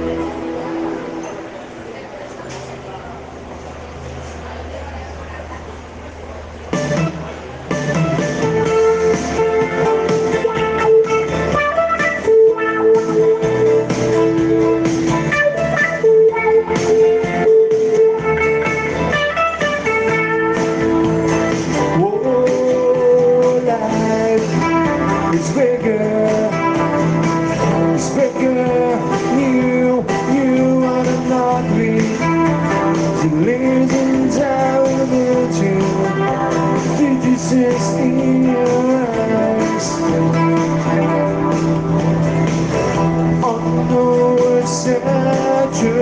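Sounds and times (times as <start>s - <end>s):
guitar-led music: 0.0s - 1.8s, 6.6s - 46.0s.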